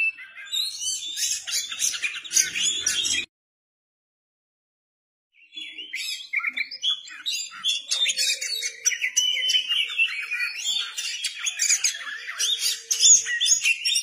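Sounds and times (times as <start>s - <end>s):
songbird singing: 0.0s - 3.3s, 5.4s - 14.0s.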